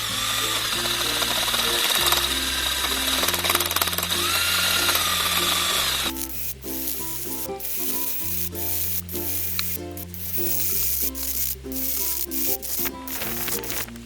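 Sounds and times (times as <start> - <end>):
power tool whining: 0.0 - 14.0.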